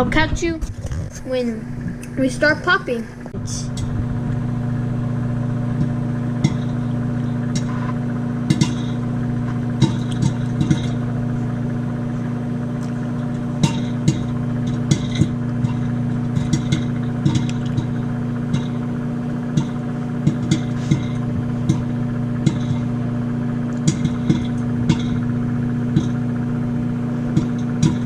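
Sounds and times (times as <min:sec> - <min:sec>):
microwave oven humming: 0:00.0 - 0:28.0
popcorn popping: 0:00.0 - 0:28.0.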